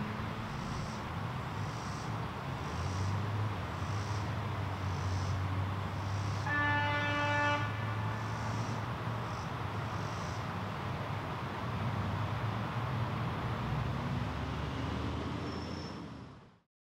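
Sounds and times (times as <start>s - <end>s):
road traffic hum: 0.0s - 16.7s.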